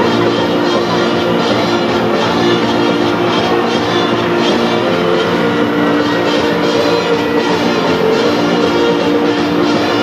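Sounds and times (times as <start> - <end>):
loud music with held notes: 0.0 - 10.0.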